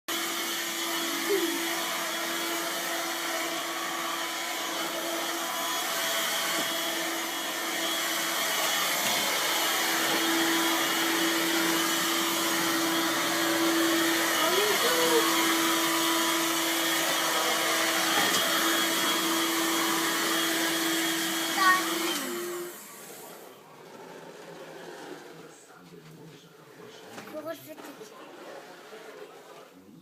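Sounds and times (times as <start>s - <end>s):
vacuum cleaner running: 0.1s - 25.9s, 26.5s - 29.8s.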